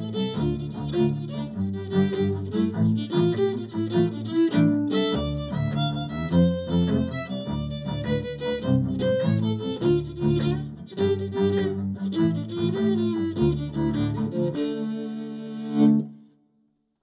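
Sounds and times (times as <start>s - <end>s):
fiddle playing a jig: 0.0s - 16.3s.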